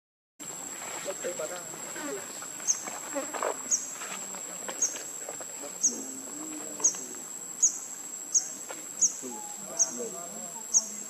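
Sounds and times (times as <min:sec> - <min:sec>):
insects droning: 0:00.4 - 0:11.0.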